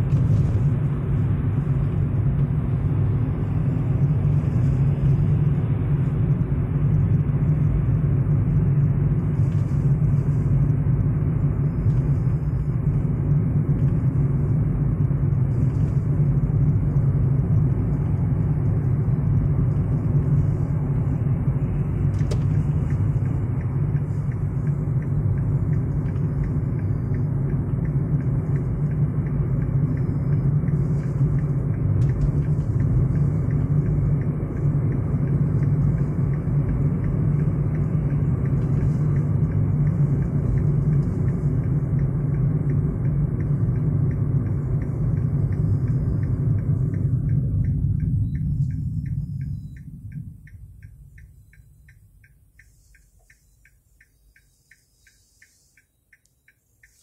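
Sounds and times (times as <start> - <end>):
car driving heard from cabin: 0.0 - 57.0.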